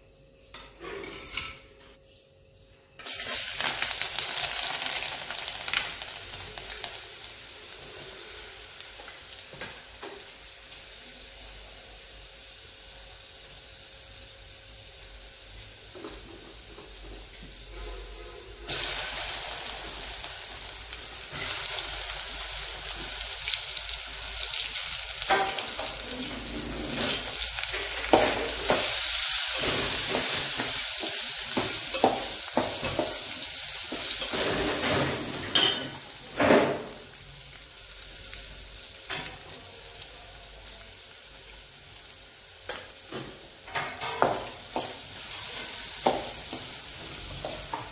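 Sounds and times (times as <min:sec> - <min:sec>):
food sizzling in hot oil: 0:03.0 - 0:17.7, 0:18.6 - 0:47.9.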